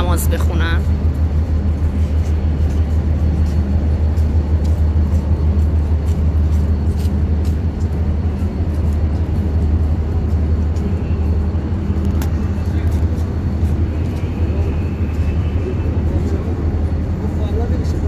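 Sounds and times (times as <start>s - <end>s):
idling train low drone: 0.0s - 18.0s.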